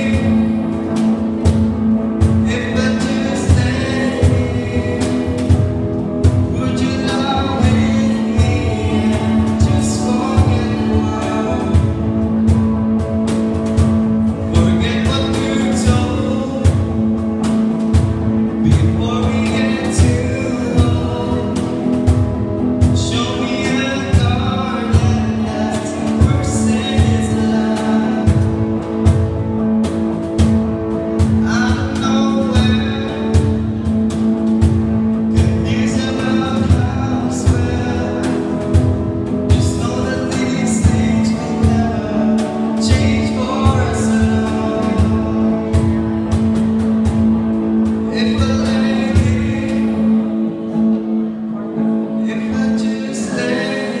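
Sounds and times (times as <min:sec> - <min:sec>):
people singing: 0:00.0 - 0:13.0, 0:14.5 - 0:29.7, 0:35.3 - 0:51.3
steady drum beat: 0:00.0 - 0:50.7
strummed guitar: 0:00.0 - 0:54.0.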